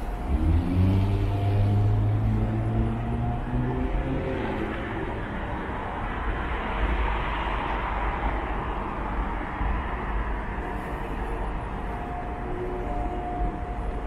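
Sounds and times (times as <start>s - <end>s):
traffic rumble: 0.0s - 14.0s
vehicle engine hum: 0.0s - 14.0s.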